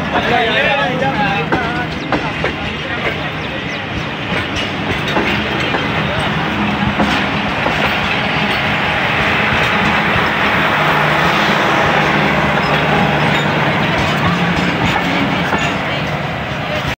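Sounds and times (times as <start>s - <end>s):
train wheels rolling on rails: 0.0s - 16.9s.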